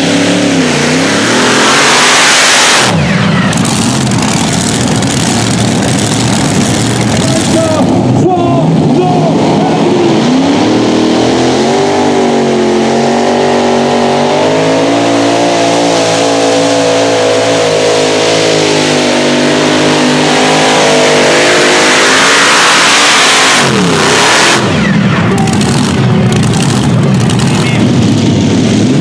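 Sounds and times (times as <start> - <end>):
tractor engines revving: 0.0 - 29.0.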